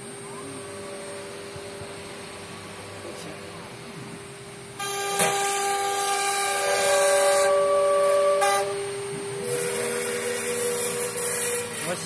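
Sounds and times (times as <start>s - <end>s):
axis drives whining: 0.0s - 12.0s
router spindle whine: 0.0s - 12.0s.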